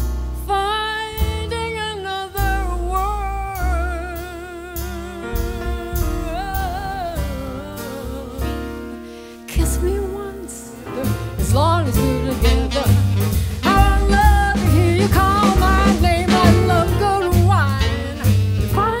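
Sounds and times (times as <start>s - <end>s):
drums: 0.0s - 19.0s
piano: 0.0s - 19.0s
upright bass: 0.0s - 19.0s
woman singing with vibrato: 0.5s - 19.0s.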